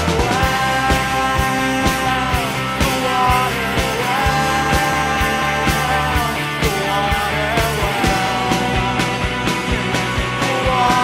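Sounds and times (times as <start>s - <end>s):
rock band playing: 0.0s - 11.0s.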